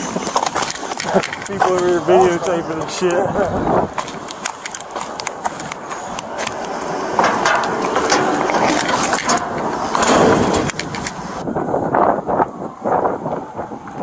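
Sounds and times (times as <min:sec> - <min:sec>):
footsteps: 0:00.0 - 0:11.4
rustling of movement: 0:00.0 - 0:11.5.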